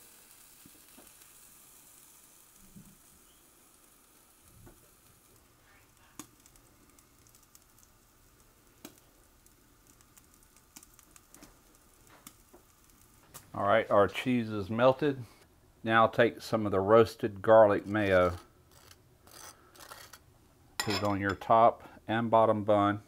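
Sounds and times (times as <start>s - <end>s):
faint sizzling under broiler: 0.0s - 23.0s.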